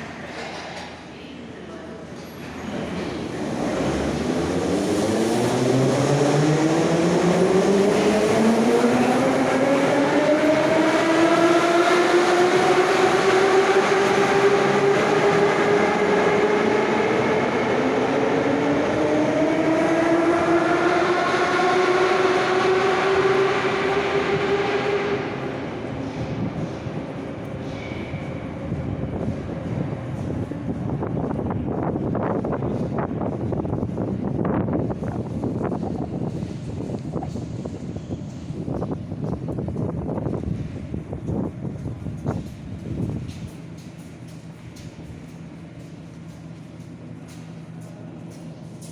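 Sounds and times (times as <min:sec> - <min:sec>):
train wheels rumbling: 0:00.0 - 0:48.9.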